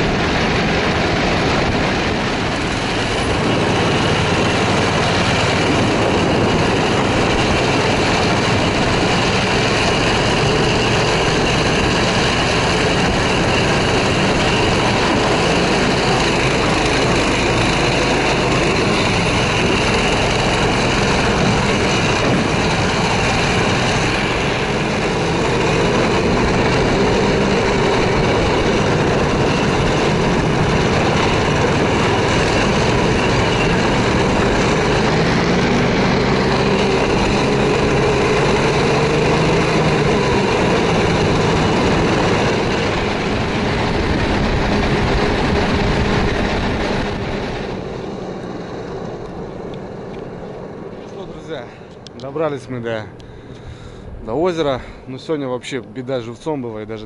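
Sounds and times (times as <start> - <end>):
snowmobile engine running: 0.0 - 55.7.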